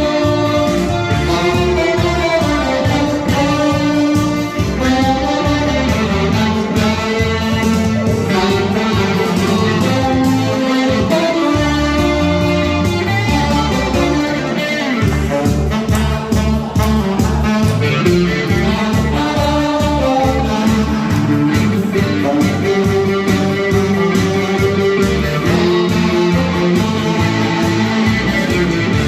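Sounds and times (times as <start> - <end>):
guitar: 0.0 - 29.0
steady bass beat: 0.0 - 29.0
tenor saxophone melody: 0.0 - 29.0.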